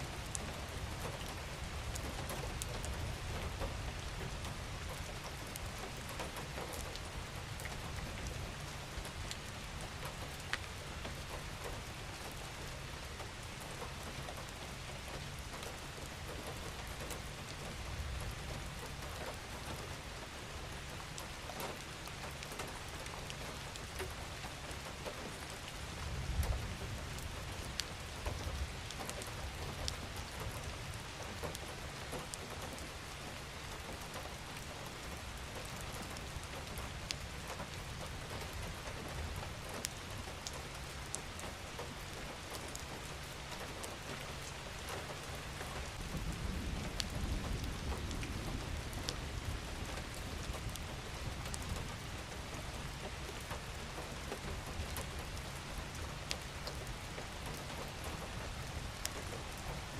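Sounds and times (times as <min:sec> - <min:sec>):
raindrops ticking close by: 0:00.0 - 0:59.9
steady rain: 0:00.0 - 0:59.9.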